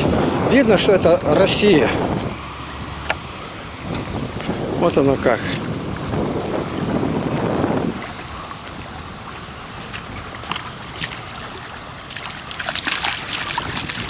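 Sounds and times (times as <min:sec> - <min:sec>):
wind and water hiss: 0:00.0 - 0:14.0.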